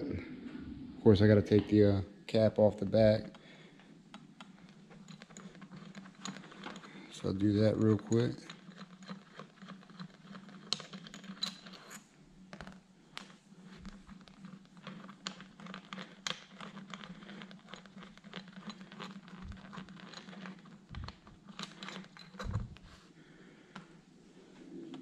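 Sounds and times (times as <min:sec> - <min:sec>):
steady low hum: 0:00.0 - 0:25.0
small metal clicks and scrapes: 0:03.0 - 0:23.0.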